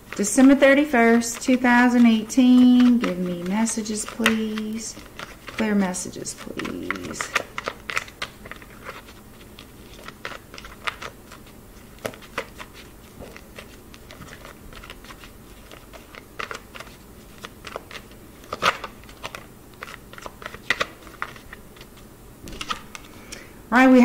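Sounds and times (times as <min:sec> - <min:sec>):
cards being shuffled: 0:00.0 - 0:23.1.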